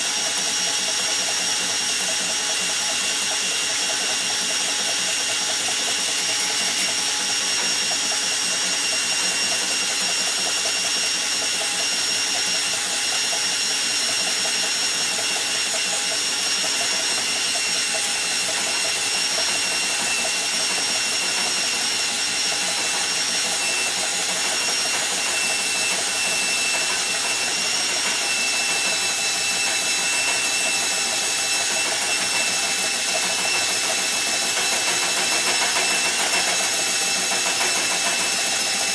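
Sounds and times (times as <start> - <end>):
cordless drill whining: 0.0 - 38.9.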